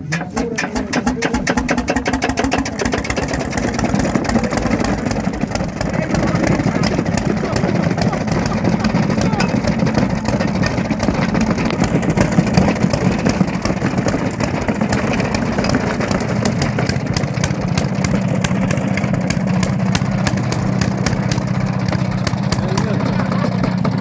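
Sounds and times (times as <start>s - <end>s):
old engine running: 0.0s - 24.0s.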